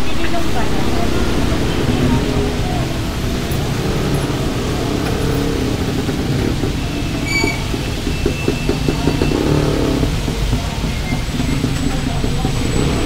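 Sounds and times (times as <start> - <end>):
vehicle engines passing: 0.0 - 13.0.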